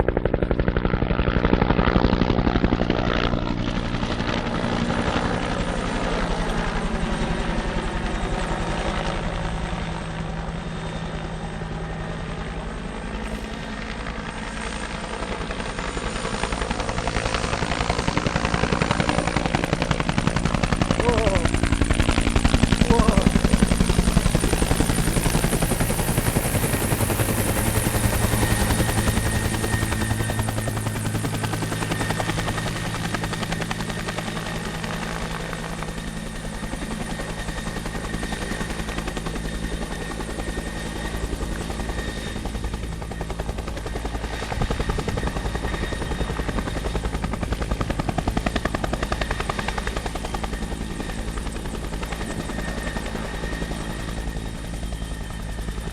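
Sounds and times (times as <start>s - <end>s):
helicopter engine whine: 0.0s - 55.9s
helicopter rotor beating: 0.0s - 55.9s.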